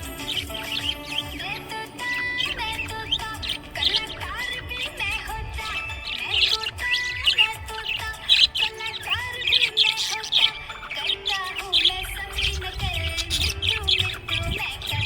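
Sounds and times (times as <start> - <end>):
background music: 0.0 - 15.0
budgerigars chirping: 0.0 - 15.0.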